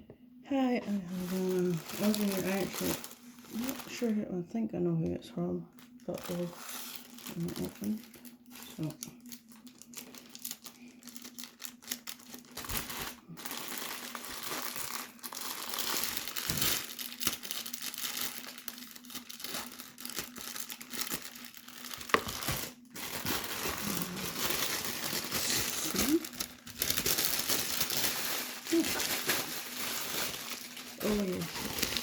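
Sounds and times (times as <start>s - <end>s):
wrapping crinkling and tearing: 0.9s - 4.2s, 5.7s - 32.0s.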